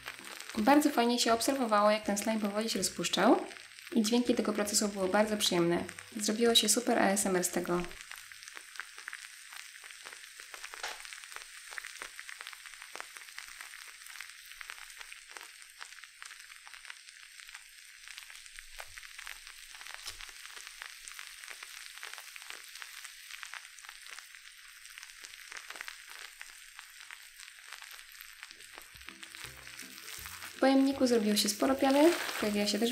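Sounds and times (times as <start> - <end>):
bath bomb fizzing: 0.0 - 32.9.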